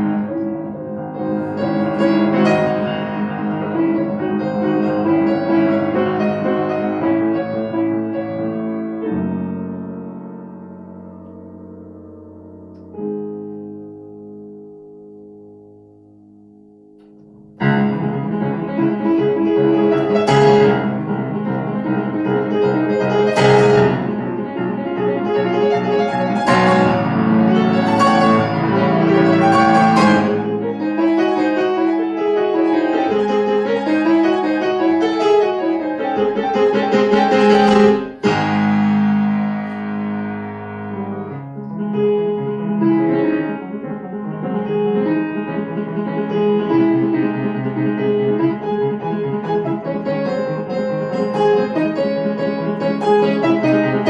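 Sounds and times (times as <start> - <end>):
grand piano classical playing: 0.0 - 54.0.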